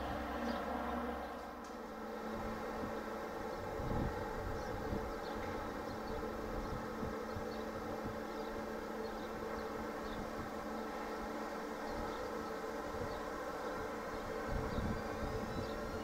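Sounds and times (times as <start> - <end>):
electric train buzzing hum: 0.0 - 16.0.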